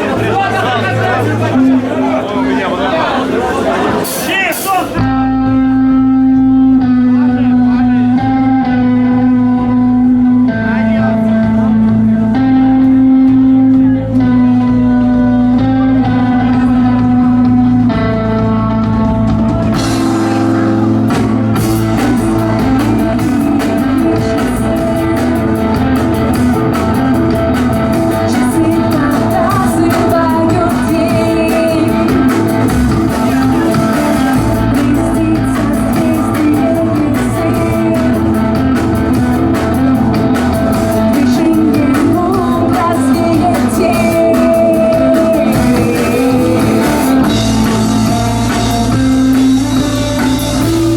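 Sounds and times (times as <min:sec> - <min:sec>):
amplified live band: 0:00.0 - 0:50.9
drums steady beat: 0:03.9 - 0:06.0, 0:11.1 - 0:50.9
held guitar notes: 0:04.9 - 0:50.9.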